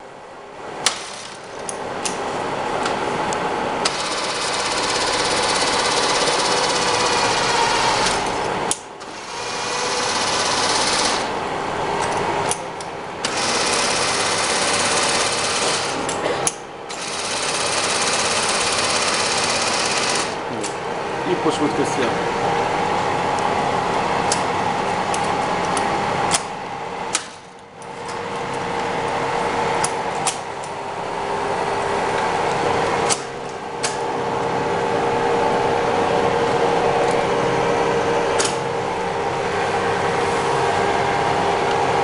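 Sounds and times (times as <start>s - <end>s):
lathe running with mechanical whir: 0.4s - 27.1s, 27.8s - 42.0s.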